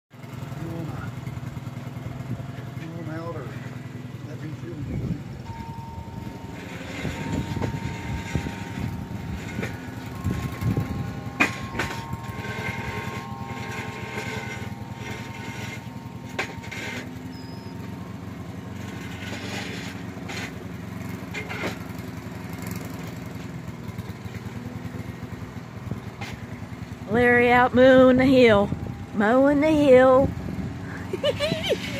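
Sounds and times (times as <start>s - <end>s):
string trimmer engine running: 0.2s - 26.0s.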